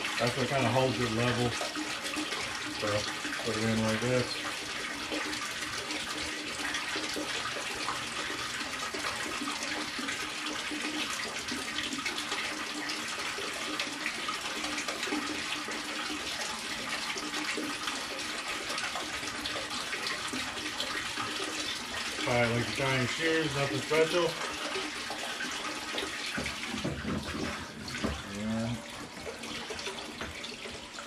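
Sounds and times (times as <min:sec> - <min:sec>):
water splashing into tank: 0:00.0 - 0:31.0.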